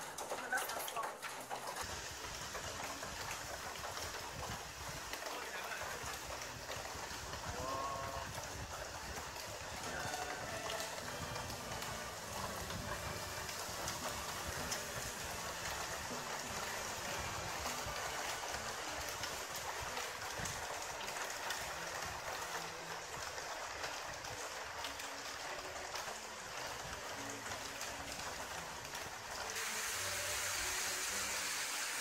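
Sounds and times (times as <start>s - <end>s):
hail hitting grass and ledge: 0.0s - 32.0s.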